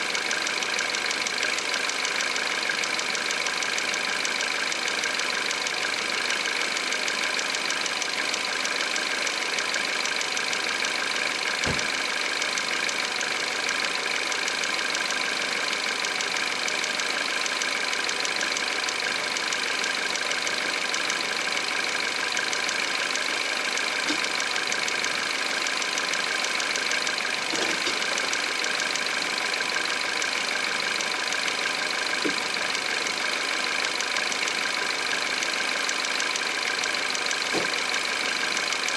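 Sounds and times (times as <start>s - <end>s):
car engine idling with ticking: 0.0s - 38.9s.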